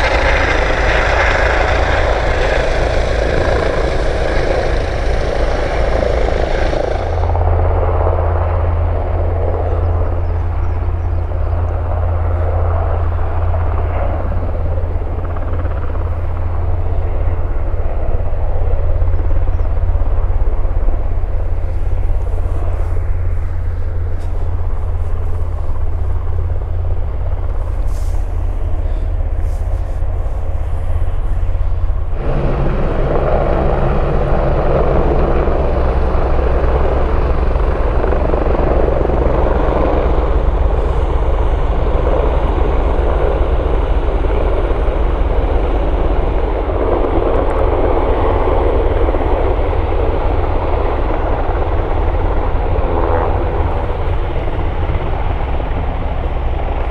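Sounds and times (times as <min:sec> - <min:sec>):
helicopter rotor thrum: 0:00.0 - 0:56.9.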